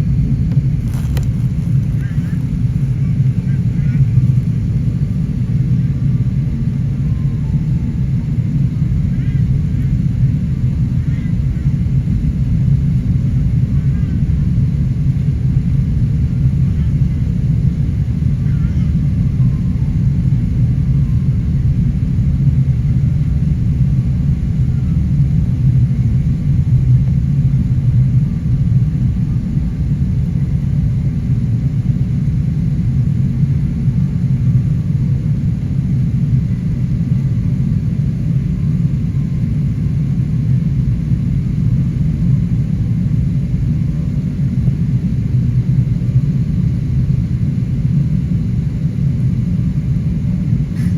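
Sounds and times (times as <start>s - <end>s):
airliner engine and airflow rumble: 0.0s - 50.9s.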